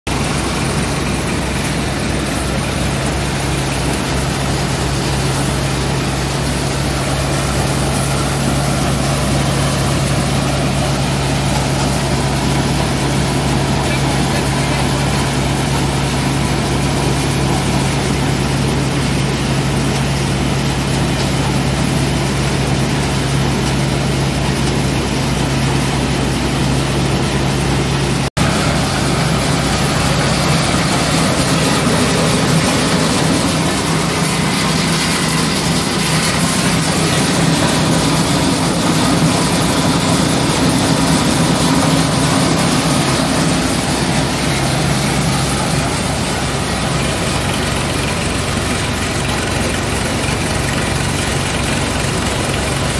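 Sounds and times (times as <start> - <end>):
thresher drum and blower: 0.1 - 52.9
tractor engine drone: 0.1 - 52.9.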